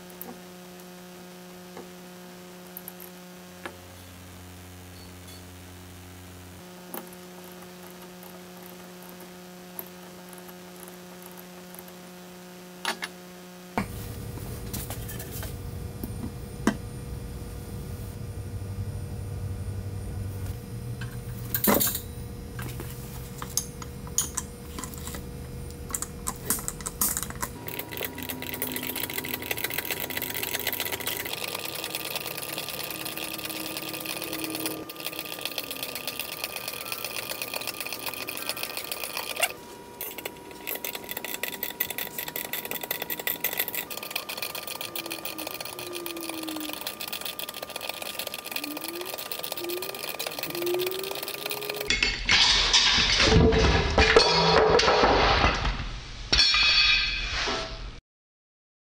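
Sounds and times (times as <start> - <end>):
steady hum: 0.0 - 54.4.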